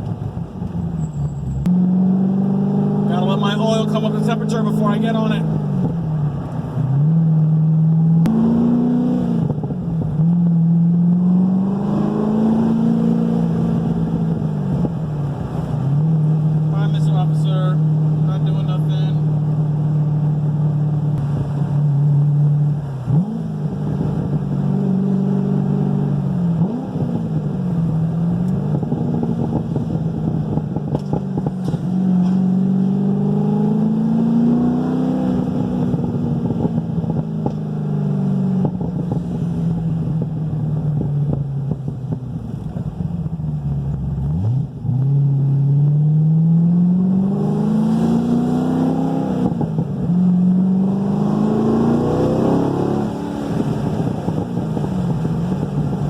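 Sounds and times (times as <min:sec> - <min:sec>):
car engine revving while driving: 0:00.0 - 0:56.0.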